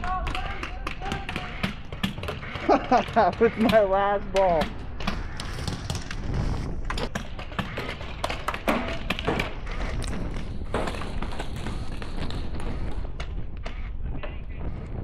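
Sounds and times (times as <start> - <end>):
wind rumbling on microphone: 1.4 - 15.0.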